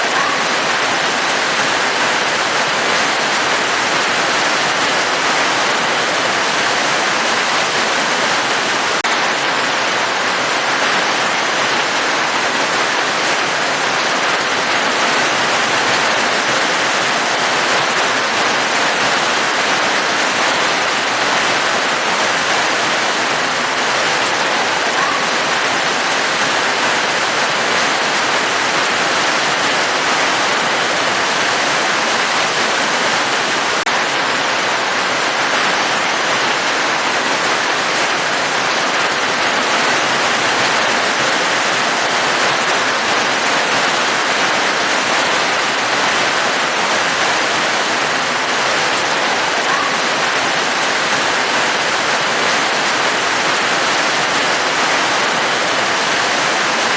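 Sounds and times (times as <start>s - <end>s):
heavy rain: 0.0s - 56.9s.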